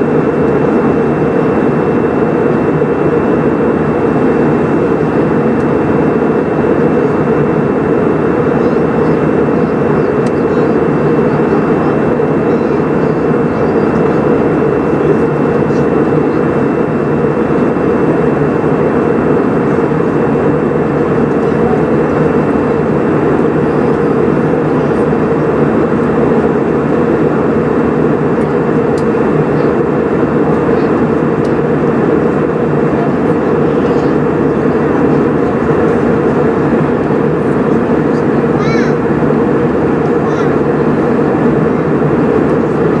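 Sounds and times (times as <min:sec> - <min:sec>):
aircraft cabin engine rumble: 0:00.0 - 0:43.0.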